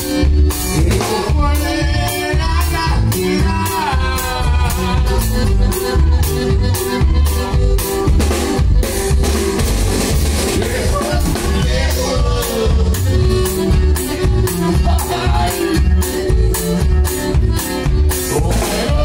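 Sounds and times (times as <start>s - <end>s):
bass guitar: 0.0s - 19.0s
drum kit beat: 0.0s - 19.0s
electric guitars: 0.0s - 19.0s.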